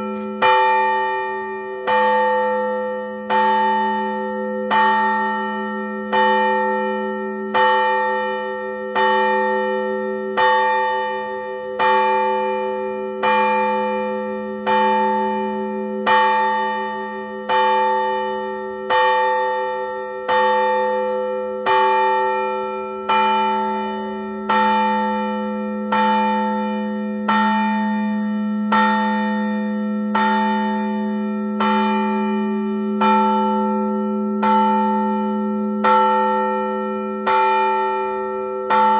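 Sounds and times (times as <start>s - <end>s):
large church bell ringing: 0.0s - 38.9s.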